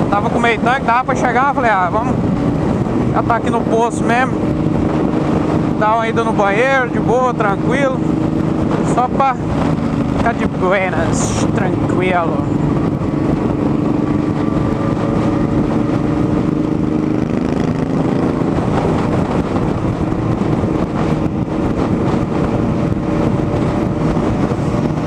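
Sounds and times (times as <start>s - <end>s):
motorcycle engine cruising: 0.0s - 25.0s
wind noise on microphone: 0.0s - 25.0s.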